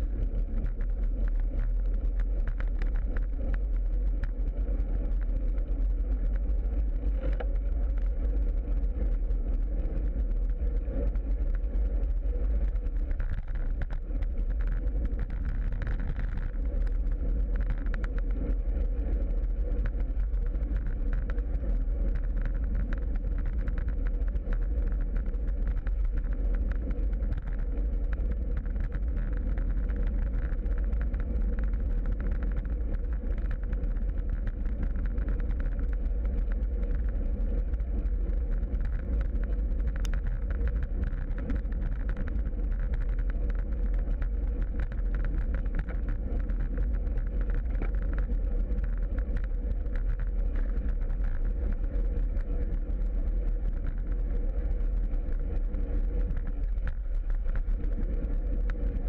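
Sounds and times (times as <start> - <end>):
faint constant hum: 0.0 - 59.0
wind rumble on microphone: 0.0 - 59.0.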